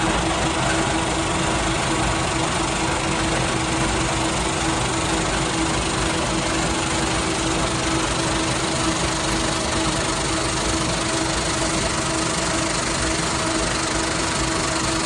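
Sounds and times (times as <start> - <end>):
factory machinery droning: 0.0 - 15.0.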